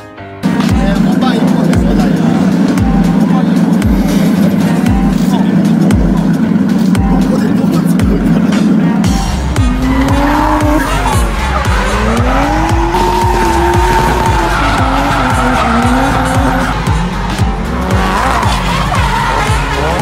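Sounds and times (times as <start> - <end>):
background music with steady beat: 0.0 - 20.0
car engine revving: 0.4 - 20.0.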